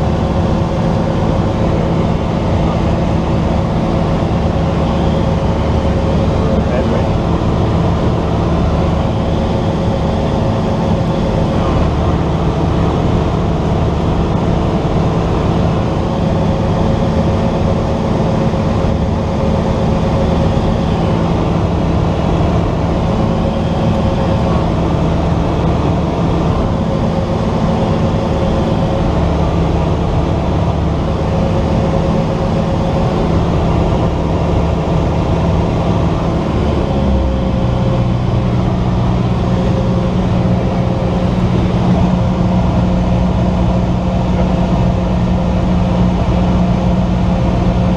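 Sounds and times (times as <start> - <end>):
propeller plane engine droning: 0.0 - 47.9.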